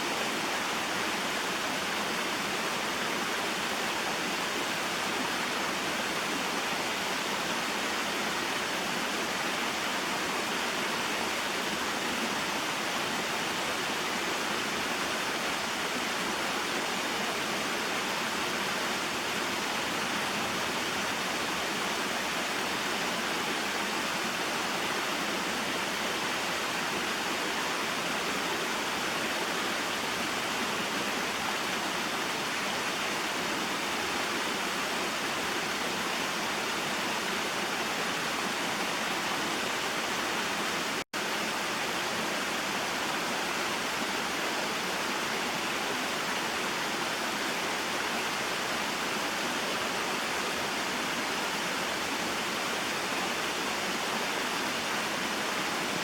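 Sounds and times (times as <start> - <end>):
waterfall and stream rushing: 0.0 - 56.0.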